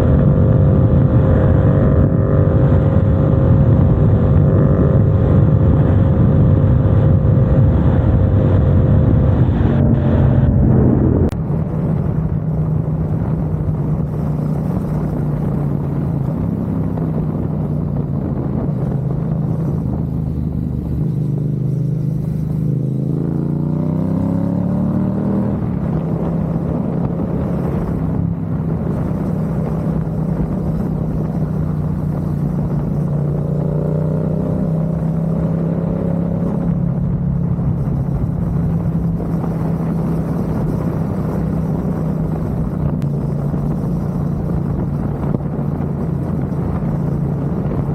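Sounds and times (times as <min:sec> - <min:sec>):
motorcycle engine revving: 0:00.0 - 0:47.9
road and wind noise: 0:00.0 - 0:47.9.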